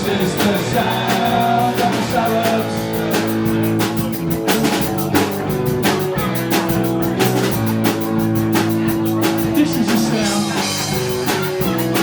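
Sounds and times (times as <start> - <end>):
drum kit beat: 0.0 - 12.0
electric guitar chords: 0.0 - 12.0.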